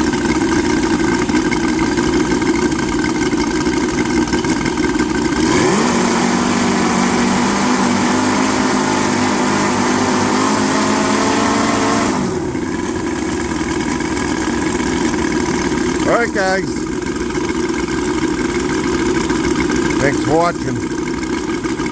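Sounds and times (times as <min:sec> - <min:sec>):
model aircraft engines running: 0:00.0 - 0:21.9.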